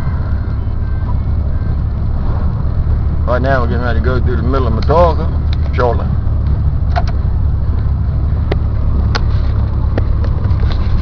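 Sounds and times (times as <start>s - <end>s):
car interior driving drone: 0.0s - 11.0s.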